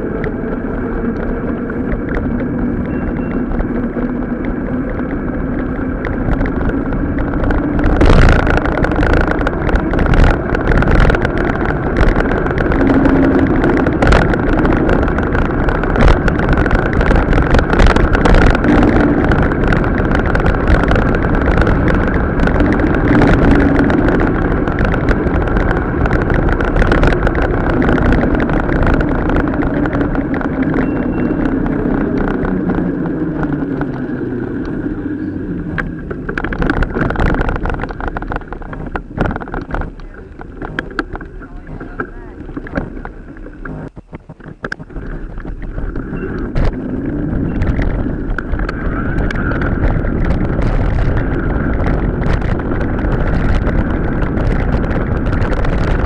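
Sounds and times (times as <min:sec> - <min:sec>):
bike rattling and knocking: 0:00.0 - 0:56.0
wavering hum: 0:00.0 - 0:56.0
wind and tyre rush: 0:00.0 - 0:56.0.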